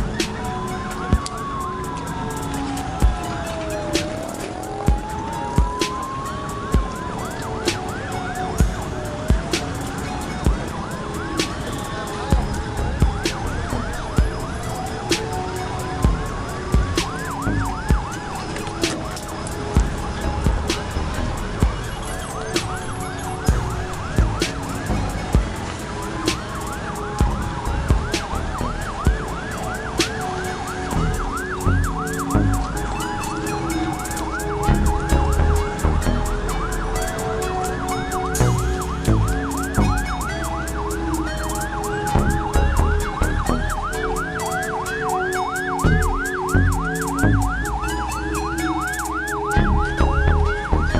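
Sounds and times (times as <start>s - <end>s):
fast yelping siren: 0.0s - 50.9s
slow wailing siren: 0.0s - 50.9s
steady held tones: 0.0s - 50.9s.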